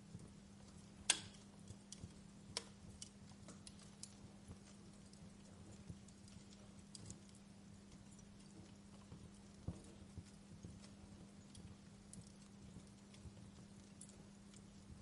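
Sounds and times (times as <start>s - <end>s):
faint low hum: 0.0s - 15.0s
wood fire crackling: 0.0s - 15.0s.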